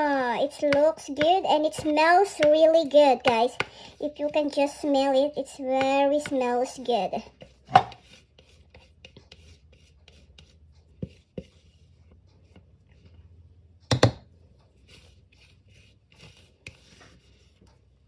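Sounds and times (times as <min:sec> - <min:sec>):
spatula scraping mixing bowl: 0:00.0 - 0:13.8, 0:14.4 - 0:18.0.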